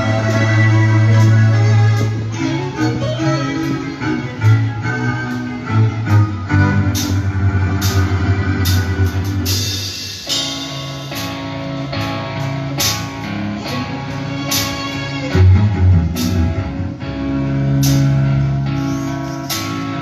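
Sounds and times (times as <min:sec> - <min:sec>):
live rock band instrumental: 0:00.0 - 0:20.0.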